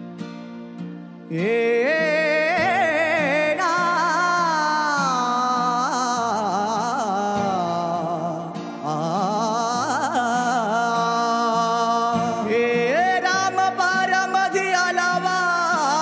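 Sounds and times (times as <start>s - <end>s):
person singing wordless notes: 1.3s - 16.0s.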